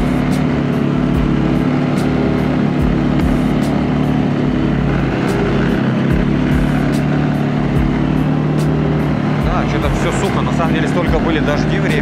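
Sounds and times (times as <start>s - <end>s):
atv engine droning: 0.0s - 12.0s.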